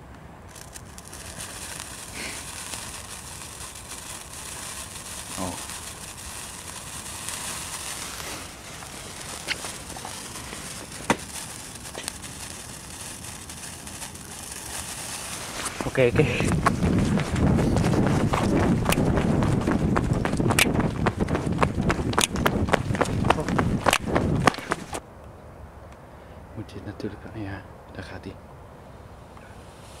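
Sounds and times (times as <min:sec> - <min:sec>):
sparkler fizzing and crackling: 0:00.5 - 0:25.0.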